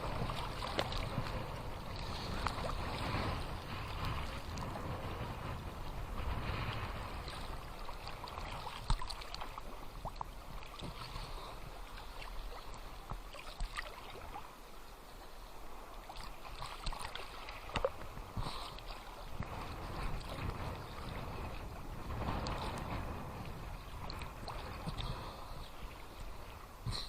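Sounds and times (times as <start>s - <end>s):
waves lapping at water's edge: 0.0s - 27.0s.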